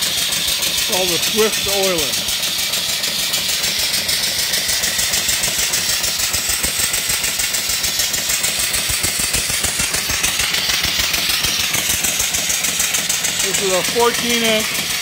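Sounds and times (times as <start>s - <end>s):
steam engine knocking: 0.0s - 15.0s
steam hiss: 0.0s - 15.0s.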